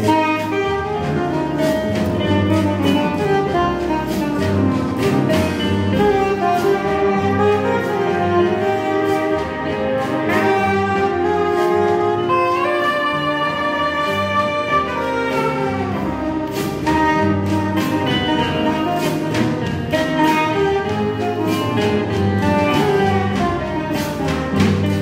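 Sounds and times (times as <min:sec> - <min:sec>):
big band accompaniment: 0:00.0 - 0:25.0
soprano saxophone jazz melody: 0:00.0 - 0:25.0.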